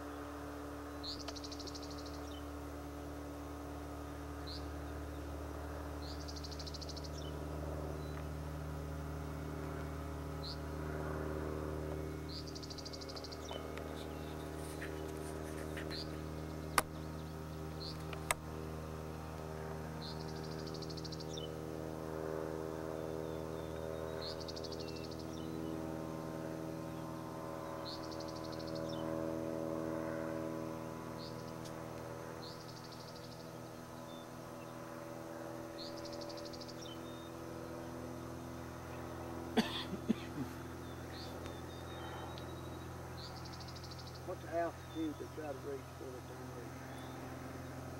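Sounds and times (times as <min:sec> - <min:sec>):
distant plane engine drone: 0:00.0 - 0:47.9.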